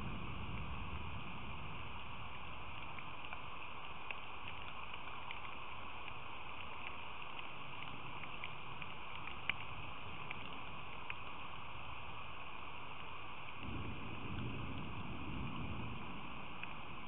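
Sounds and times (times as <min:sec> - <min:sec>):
light ticks of raindrops: 0:00.0 - 0:17.0
steady rain falling: 0:00.0 - 0:17.0.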